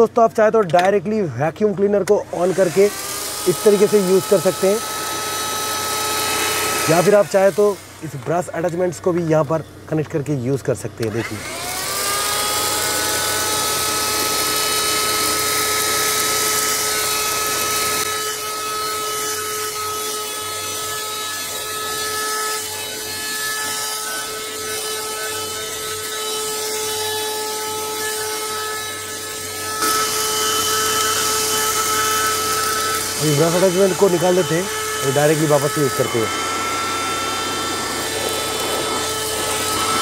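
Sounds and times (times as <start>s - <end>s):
handheld vacuum cleaner running: 1.8s - 9.5s, 11.0s - 40.0s.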